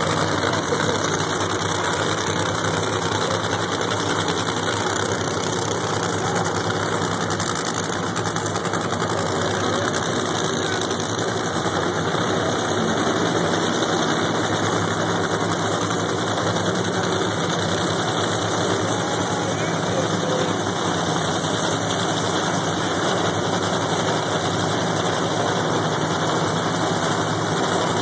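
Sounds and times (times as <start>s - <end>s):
race car engines idling: 0.0s - 28.0s.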